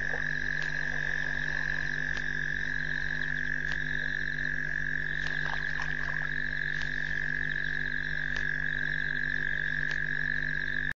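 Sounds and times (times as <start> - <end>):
low frog croaks: 0.0 - 10.9
frog chorus high-pitched call: 0.0 - 11.0
steady low hum: 0.0 - 11.0.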